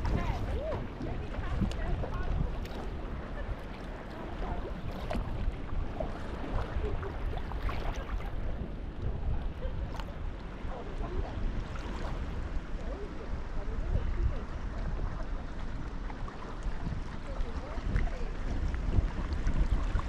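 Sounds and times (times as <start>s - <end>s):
paddle water splashing: 0.0s - 20.0s
water lapping at hull: 0.0s - 20.0s
wind rumble on microphone: 0.0s - 20.0s.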